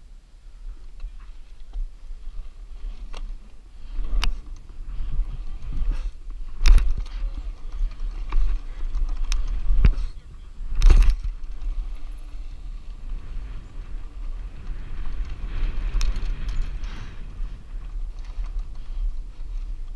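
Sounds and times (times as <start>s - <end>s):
wind rumble on microphone: 0.0s - 19.9s
tyre noise on dirt: 1.0s - 19.9s.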